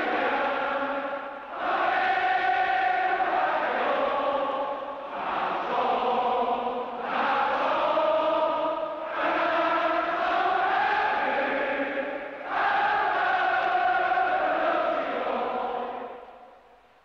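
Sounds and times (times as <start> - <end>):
stadium crowd singing: 0.0 - 16.8.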